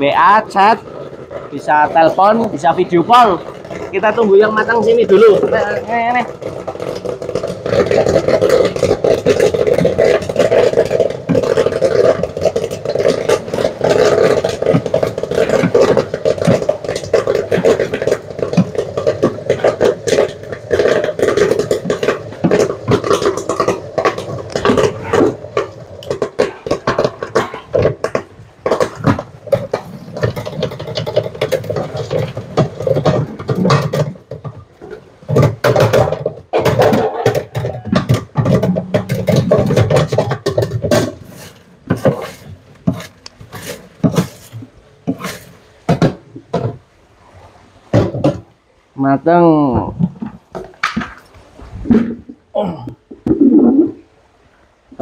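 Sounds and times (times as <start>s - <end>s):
popcorn popping: 0.0s - 46.8s.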